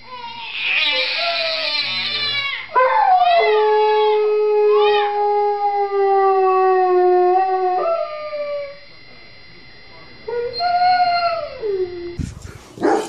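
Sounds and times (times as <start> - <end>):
dog howling: 0.1 - 8.8, 10.3 - 13.0.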